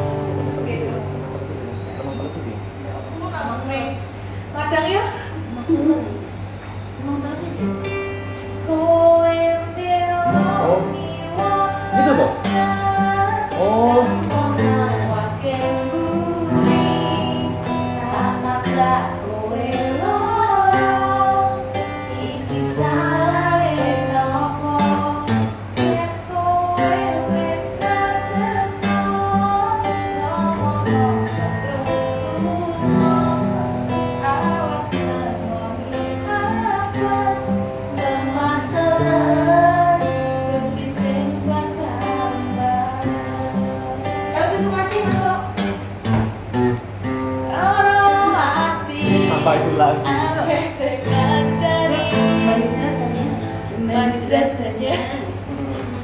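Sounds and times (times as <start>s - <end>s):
strummed acoustic guitar: 0.0s - 1.9s, 6.4s - 56.0s
woman singing: 8.6s - 45.8s, 47.4s - 56.0s.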